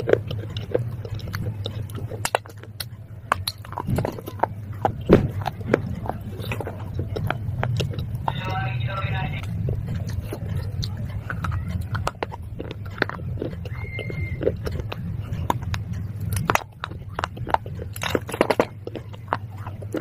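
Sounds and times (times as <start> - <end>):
crunching and chewing: 0.0 - 20.0
steady low hum: 0.0 - 20.0.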